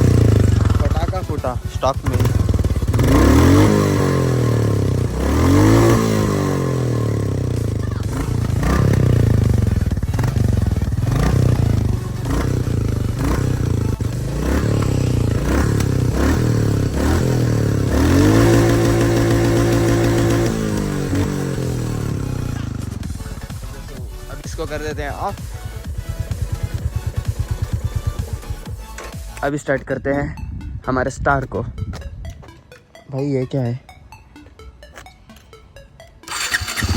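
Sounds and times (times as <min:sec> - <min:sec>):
motorcycle engine revving: 0:00.0 - 0:29.0, 0:36.2 - 0:36.9.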